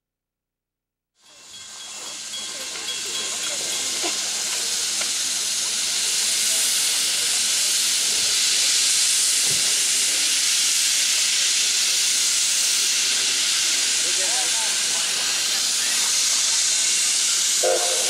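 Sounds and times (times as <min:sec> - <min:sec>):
steam locomotive hissing: 0:01.2 - 0:18.0.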